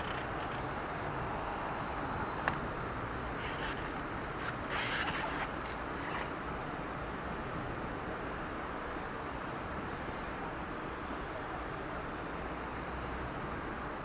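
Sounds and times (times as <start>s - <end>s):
passing car traffic: 0.0s - 14.0s.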